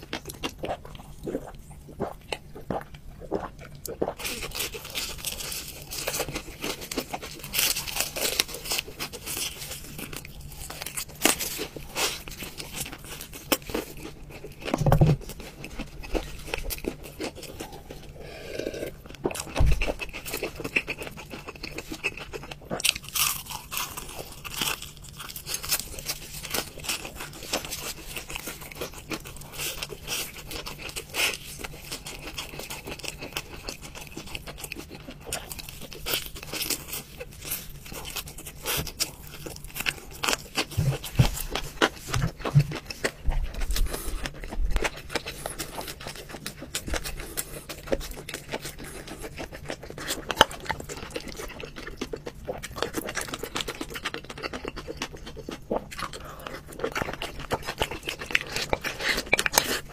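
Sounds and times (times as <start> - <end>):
crunching and chewing fried chicken: 0.0 - 59.9.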